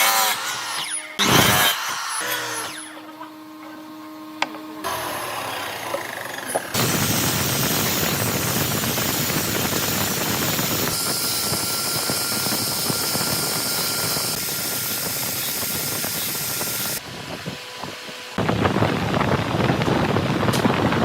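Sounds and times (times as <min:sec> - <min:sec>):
woodworking power tool running: 0:00.0 - 0:21.0.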